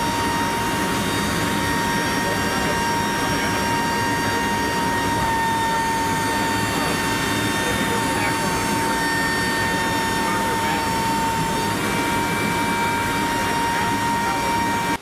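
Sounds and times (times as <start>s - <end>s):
high turbine whine: 0.0s - 15.0s
turboprop engines droning: 0.0s - 15.0s.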